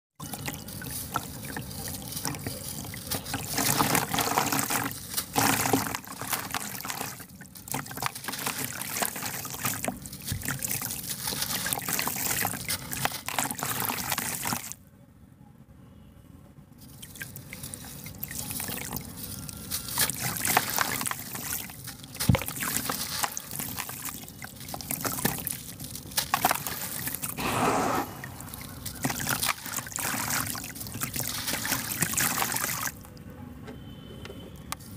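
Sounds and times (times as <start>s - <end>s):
grains splashing into water: 0.2s - 14.8s, 16.9s - 33.1s.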